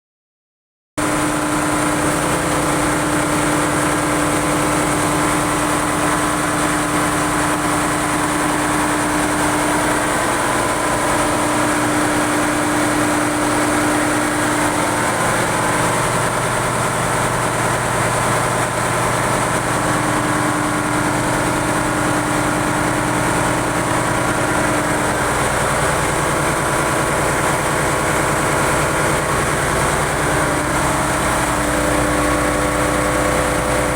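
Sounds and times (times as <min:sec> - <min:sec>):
diesel engine droning: 0:01.0 - 0:33.9.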